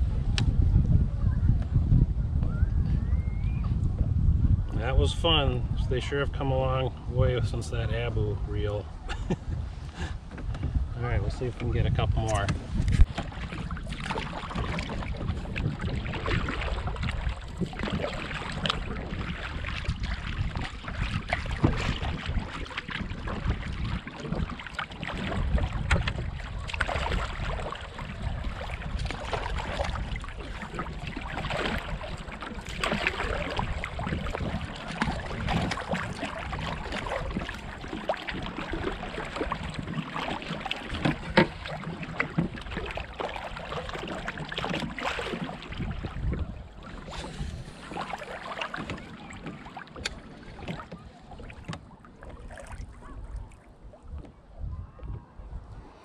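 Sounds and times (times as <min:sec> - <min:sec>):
wind rumbling on microphone: 0:00.0 - 0:56.0
water splashing around canoe: 0:06.5 - 0:56.0.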